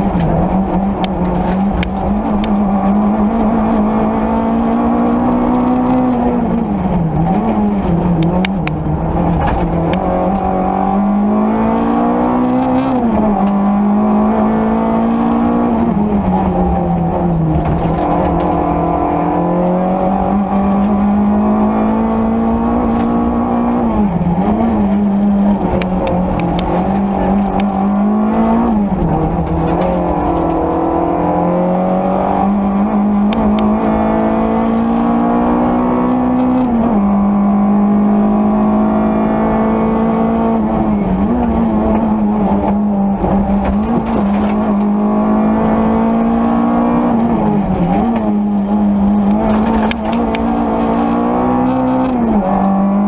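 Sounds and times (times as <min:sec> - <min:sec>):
car engine revving from inside cabin: 0:00.0 - 0:53.0.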